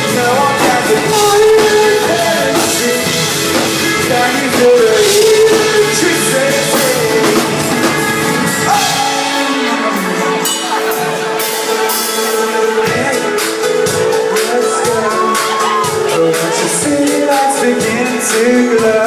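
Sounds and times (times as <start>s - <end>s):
drum kit: 0.0s - 19.0s
live pop-rock band: 0.0s - 19.0s
person singing: 0.0s - 19.0s.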